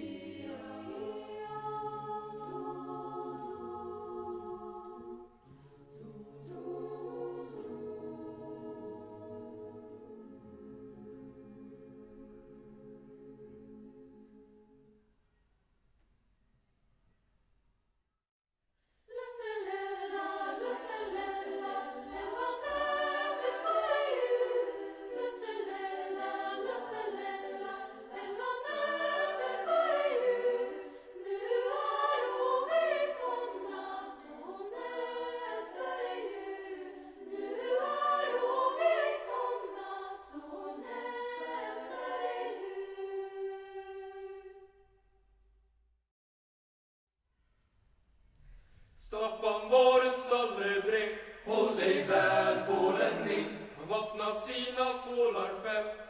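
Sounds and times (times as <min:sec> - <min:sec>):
children's choir singing: 0:00.0 - 0:14.7, 0:19.1 - 0:44.8, 0:49.1 - 0:56.0.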